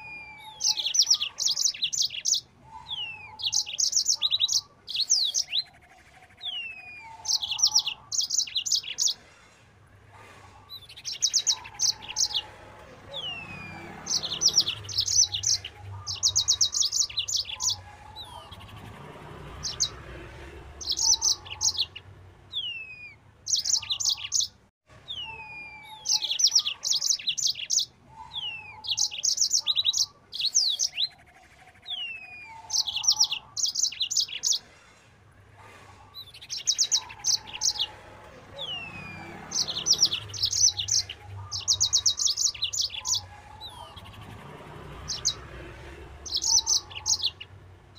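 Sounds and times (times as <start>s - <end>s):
canary singing trills: 0.0s - 9.4s, 10.0s - 34.8s, 35.6s - 47.9s.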